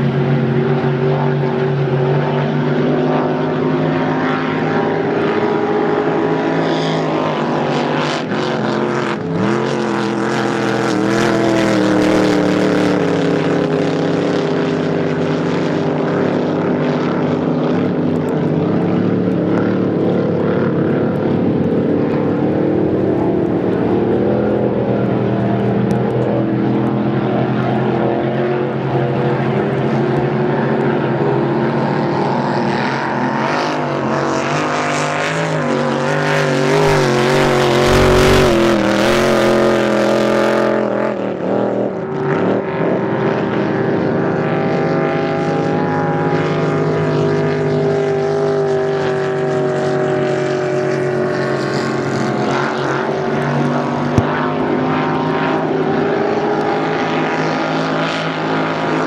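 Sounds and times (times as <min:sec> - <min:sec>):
race boat engines droning: 0:00.0 - 0:59.0.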